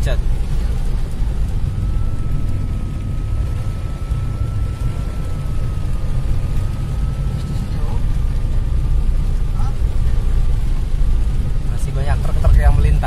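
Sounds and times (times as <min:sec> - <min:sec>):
faint high-pitched whine: 0:00.0 - 0:13.0
heavy rain on car roof: 0:00.0 - 0:13.0
low rumble: 0:00.0 - 0:13.0.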